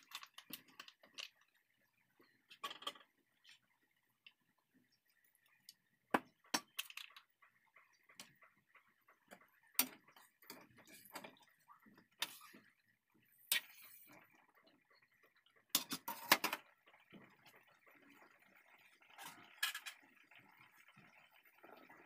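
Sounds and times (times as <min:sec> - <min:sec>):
faint sizzle: 0:00.0 - 0:22.0.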